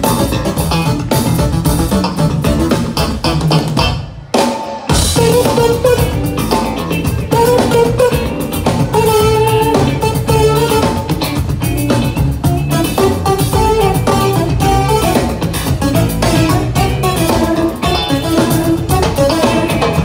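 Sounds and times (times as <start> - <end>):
bass guitar: 0.0 - 20.0
drums: 0.0 - 20.0
guitar lead notes: 0.0 - 20.0
keyboards: 0.0 - 20.0.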